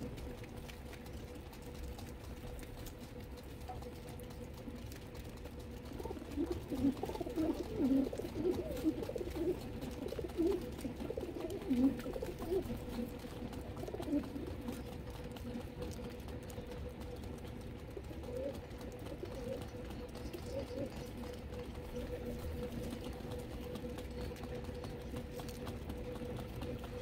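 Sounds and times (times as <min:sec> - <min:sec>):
faint steady hum: 0:00.0 - 0:27.0
pigeons cooing: 0:00.0 - 0:27.0.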